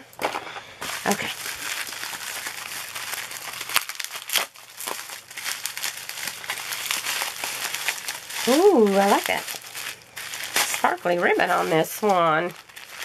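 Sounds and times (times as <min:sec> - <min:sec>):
bubble wrap crinkling: 0:00.2 - 0:13.0.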